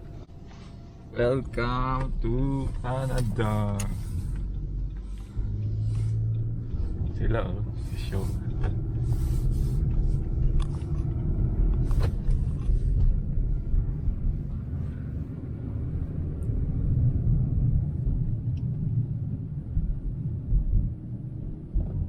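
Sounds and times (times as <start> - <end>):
engine and tyres rumbling: 0.0 - 22.0.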